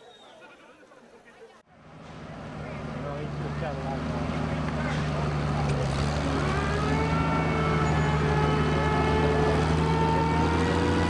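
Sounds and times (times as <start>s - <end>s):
tractor engine revving up: 1.8s - 11.0s.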